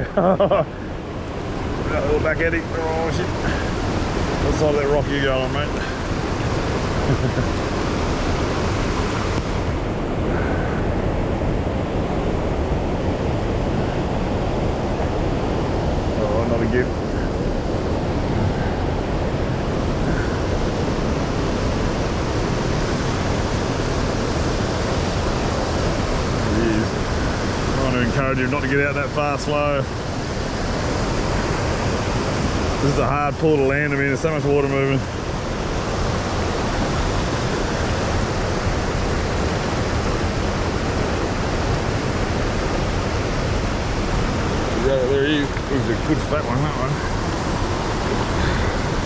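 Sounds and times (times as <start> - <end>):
river water rushing: 0.0 - 49.0.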